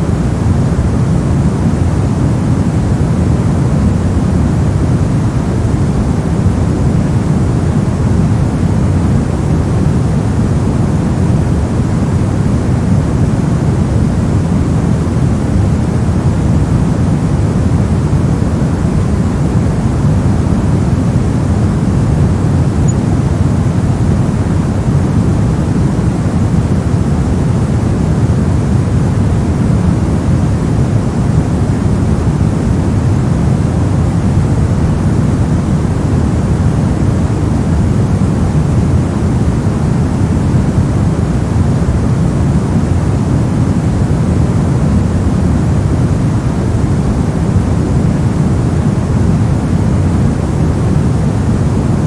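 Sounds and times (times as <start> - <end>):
deep white noise: 0.0 - 52.0.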